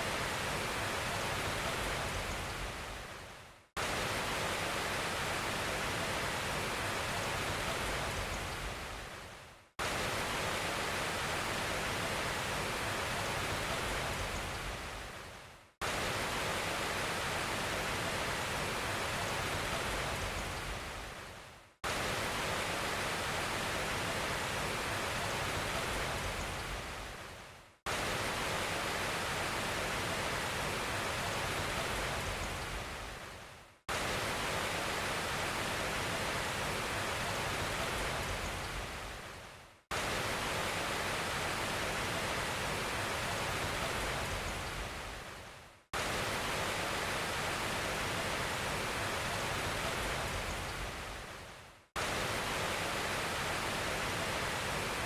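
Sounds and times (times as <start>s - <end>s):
even hiss like rushing water: 0.0s - 55.0s.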